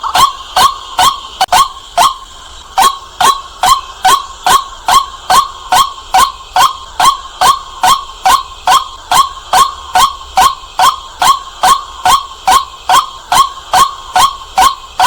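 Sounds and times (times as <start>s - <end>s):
waterhen harsh calls: 0.0s - 15.0s.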